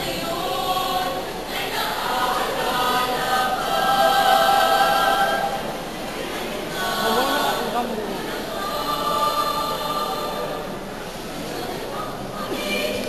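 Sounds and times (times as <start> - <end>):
choir singing in harmony: 0.0 - 13.0.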